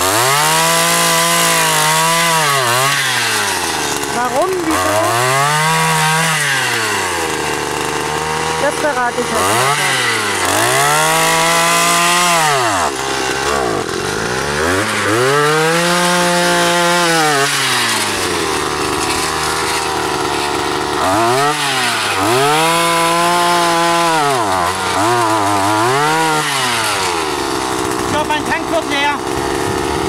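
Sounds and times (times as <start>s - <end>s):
earth auger engine revving: 0.0s - 30.0s.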